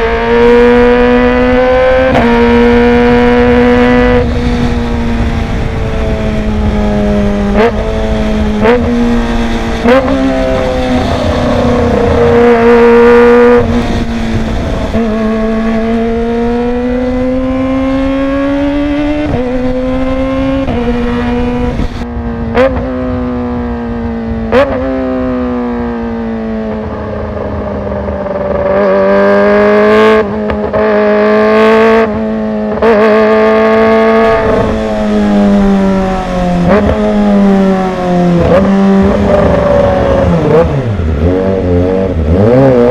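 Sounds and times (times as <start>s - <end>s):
motorcycle engine running loud: 0.0s - 42.9s.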